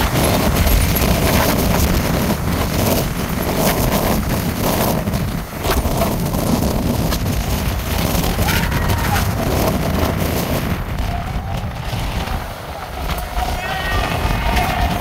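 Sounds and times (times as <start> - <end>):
jet blast gusting across microphone: 0.0 - 15.0
jet engines rumbling at takeoff: 0.0 - 15.0.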